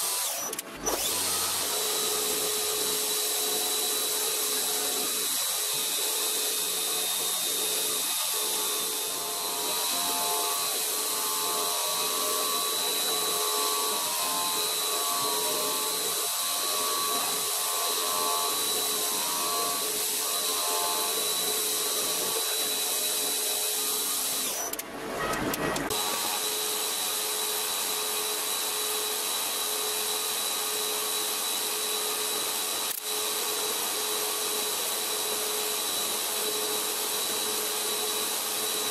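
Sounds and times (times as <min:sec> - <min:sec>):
milling machine whine: 0:00.0 - 0:38.9.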